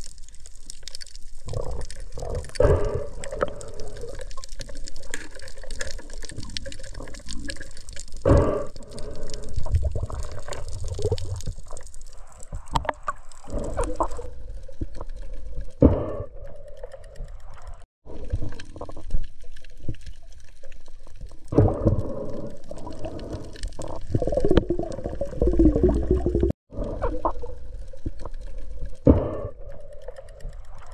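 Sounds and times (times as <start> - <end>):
underwater whooshing and bubbling: 0.9 - 30.9.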